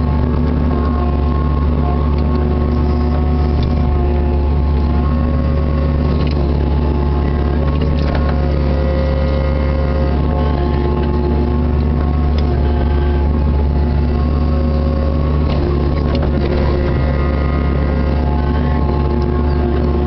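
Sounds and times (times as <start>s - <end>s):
diesel engine running under load: 0.0s - 20.0s
hydraulic whining: 0.0s - 20.0s.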